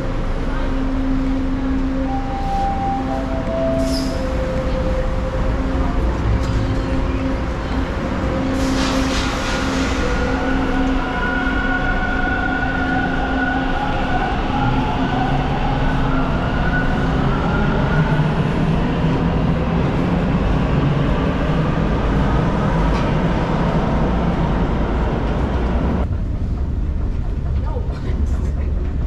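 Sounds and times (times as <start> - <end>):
subway train rumbling on tracks: 0.0 - 29.0.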